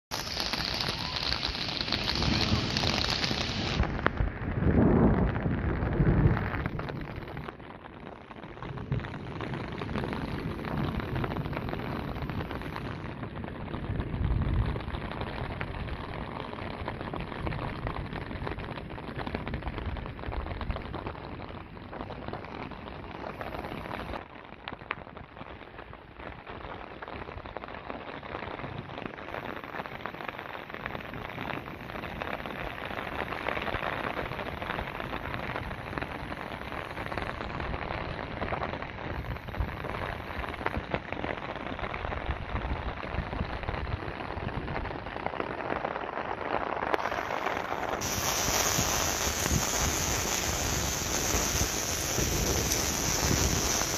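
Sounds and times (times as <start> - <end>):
rain pattering: 0.1 - 53.9.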